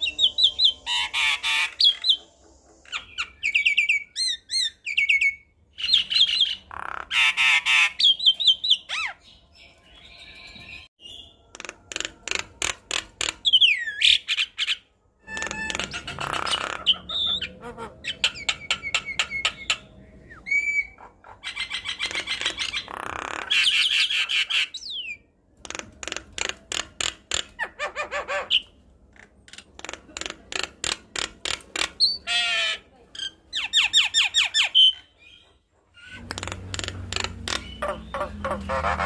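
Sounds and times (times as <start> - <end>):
myna bird singing: 0.0 - 25.3, 31.8 - 39.0.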